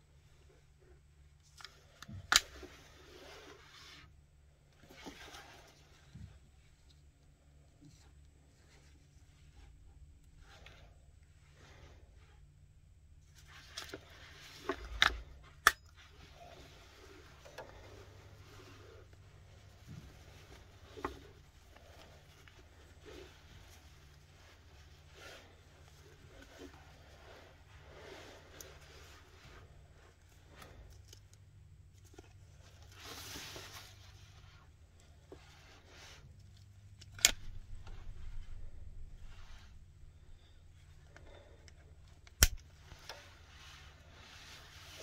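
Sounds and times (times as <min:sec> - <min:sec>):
low steady hum: 0:00.0 - 0:45.0
mesh fabric rustling: 0:04.7 - 0:12.4, 0:13.2 - 0:45.0.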